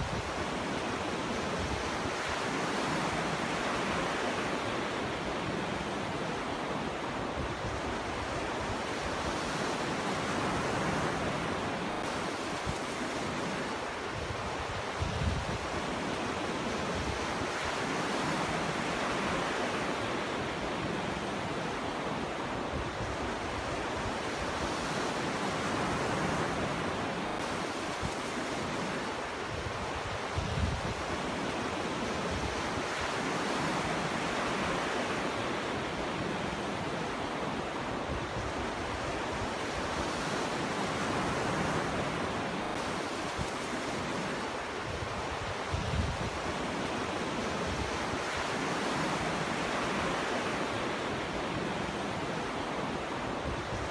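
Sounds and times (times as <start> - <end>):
wind rumble on microphone: 0.0 - 5.9, 7.0 - 21.2, 22.4 - 36.9, 37.6 - 53.9
ocean waves breaking: 0.0 - 53.9.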